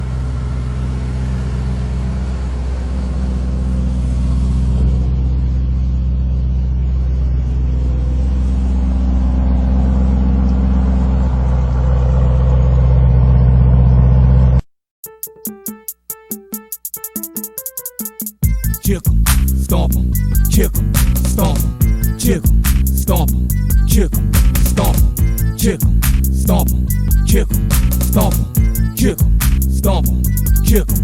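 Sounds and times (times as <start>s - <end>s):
car engine droning: 0.0s - 14.7s, 19.0s - 31.0s.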